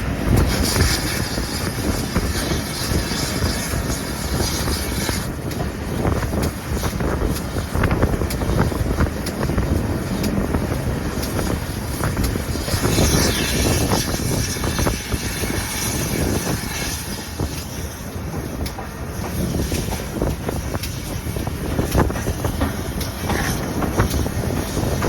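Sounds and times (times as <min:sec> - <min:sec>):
hiss: 0:00.0 - 0:25.0
train rumbling with clicks: 0:00.0 - 0:25.0
wind buffeting microphone: 0:00.0 - 0:25.0.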